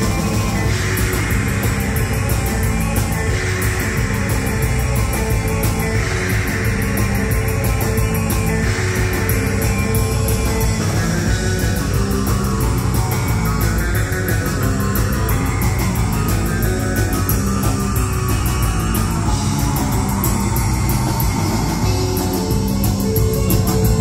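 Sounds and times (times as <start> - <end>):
bass guitar: 0.0 - 24.0
drums: 0.0 - 24.0
electric guitar: 0.0 - 24.0.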